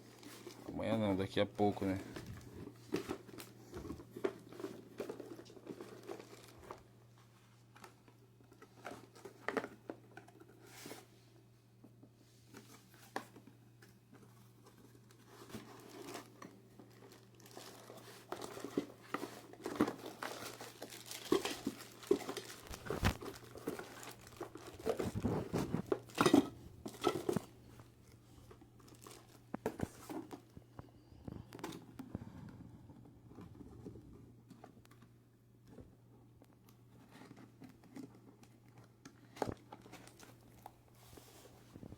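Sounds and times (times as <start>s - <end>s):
packaging crinkling and rustling: 0.0s - 11.1s, 12.4s - 41.9s.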